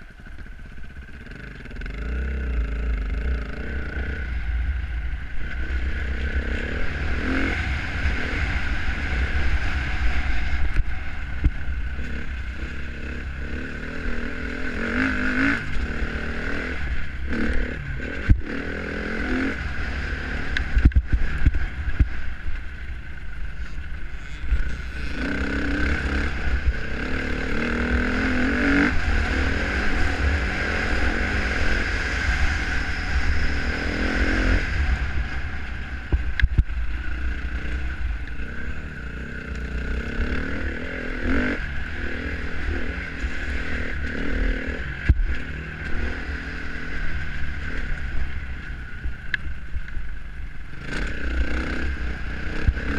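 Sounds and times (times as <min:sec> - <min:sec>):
wind rumble on microphone: 0:00.0 - 0:52.9
dirt bike engine revving: 0:00.8 - 0:49.1, 0:50.7 - 0:52.9.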